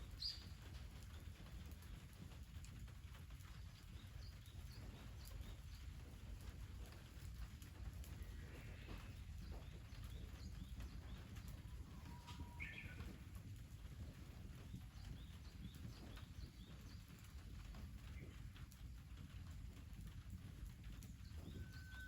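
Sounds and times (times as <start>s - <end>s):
small birds chirping: 0.0s - 19.3s, 20.2s - 22.0s
low steady rumble: 0.0s - 22.0s.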